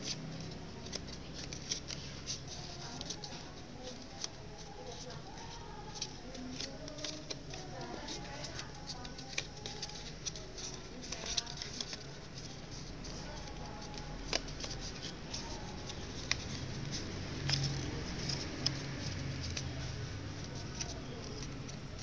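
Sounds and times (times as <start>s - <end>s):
paper crackles: 0.0s - 22.0s
paper rustling: 0.0s - 22.0s.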